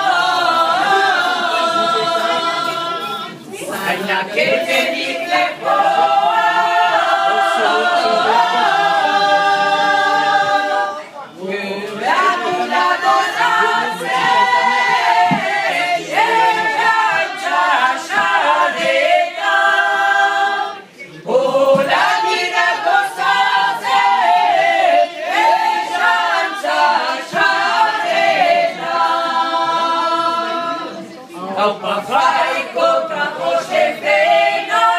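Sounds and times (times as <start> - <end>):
women singing unaccompanied: 0.0 - 34.9.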